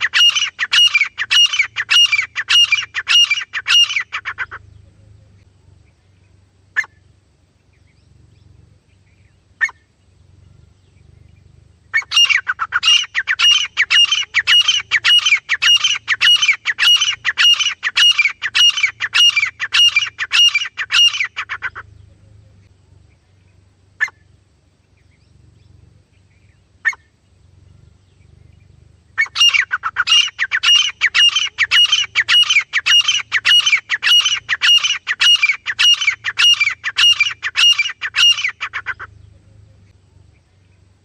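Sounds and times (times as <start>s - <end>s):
francolin calling: 0.0s - 41.0s.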